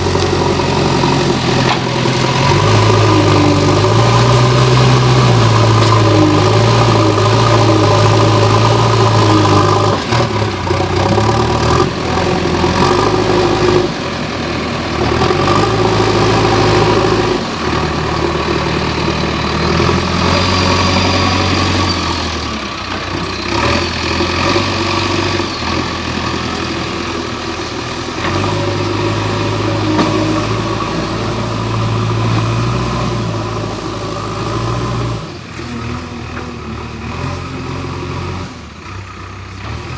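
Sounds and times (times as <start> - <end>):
diesel engine under changing load: 0.0 - 39.9.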